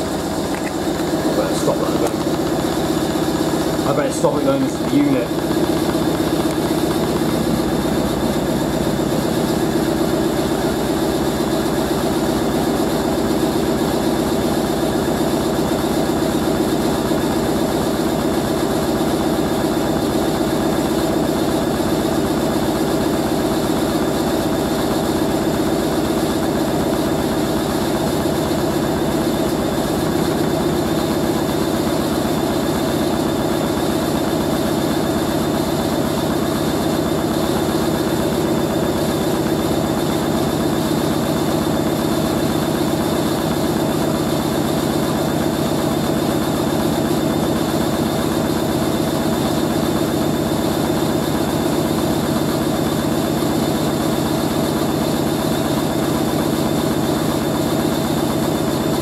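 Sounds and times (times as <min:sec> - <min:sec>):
washing machine humming: 0:00.0 - 0:59.0.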